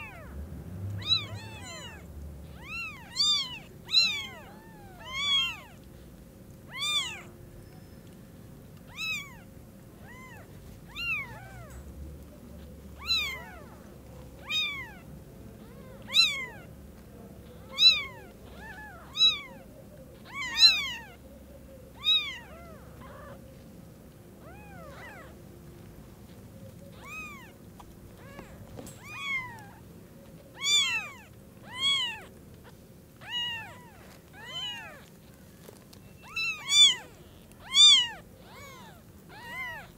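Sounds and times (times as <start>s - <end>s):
kittens mewing: 0.0s - 0.4s, 1.0s - 6.0s, 6.6s - 7.4s, 8.9s - 11.9s, 12.5s - 16.8s, 17.4s - 23.6s, 24.4s - 25.5s, 26.2s - 39.9s.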